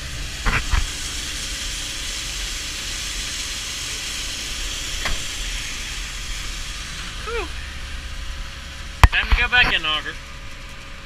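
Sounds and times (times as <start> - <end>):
steady hiss: 0.0 - 10.1
low engine drone: 0.0 - 11.0.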